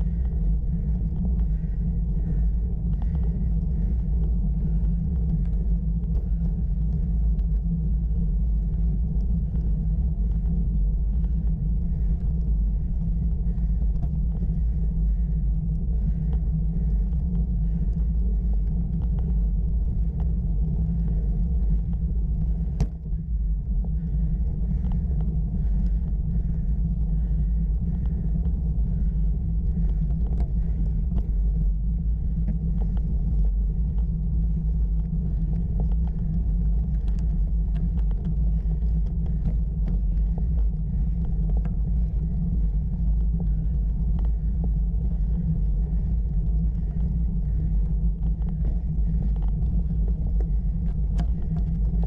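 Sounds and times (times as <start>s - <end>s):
faint clicks and rattles: 0.0s - 52.0s
road vibration rumble: 0.0s - 52.0s
wind over microphone: 0.0s - 52.0s.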